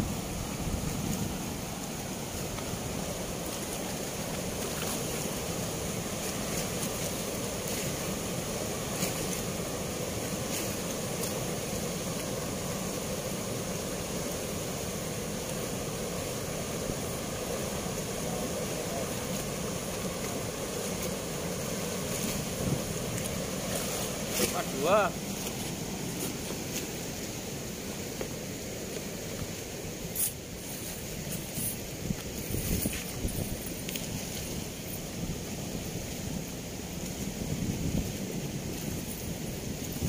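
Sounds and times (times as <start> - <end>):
turbulent water rushing: 0.0 - 40.0.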